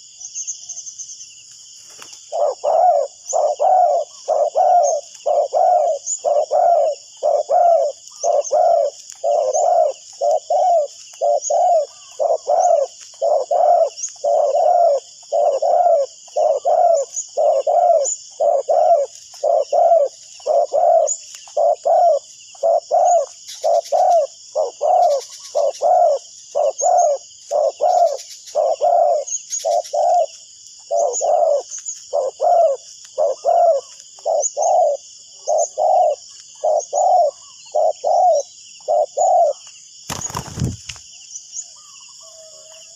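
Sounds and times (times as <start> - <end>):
dove cooing: 2.0 - 41.0.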